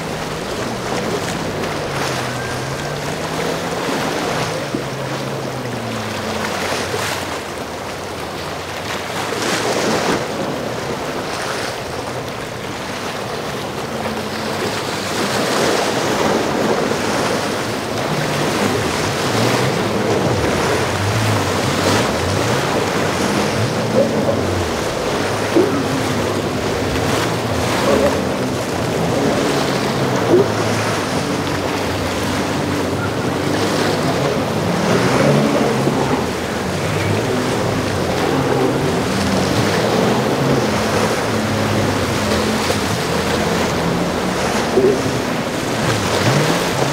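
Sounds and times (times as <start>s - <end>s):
low drone of boat engines: 0.0s - 46.9s
waves and surf rushing: 0.0s - 46.9s.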